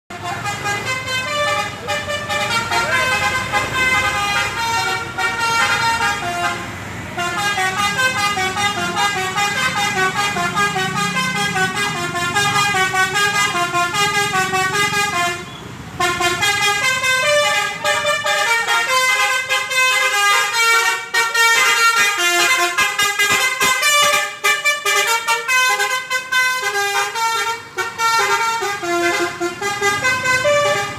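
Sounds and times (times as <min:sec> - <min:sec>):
multi-tone bus air horn melody: 0:00.1 - 0:30.9.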